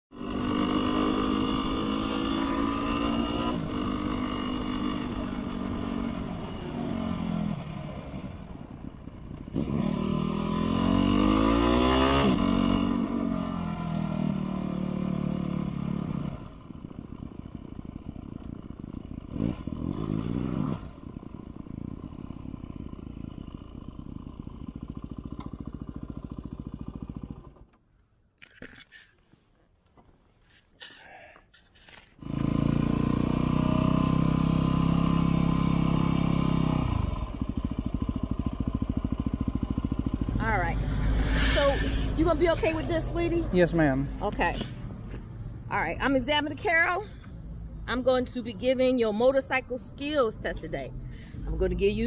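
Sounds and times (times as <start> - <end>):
motorcycle engine running: 0.1 - 27.8, 32.2 - 48.4.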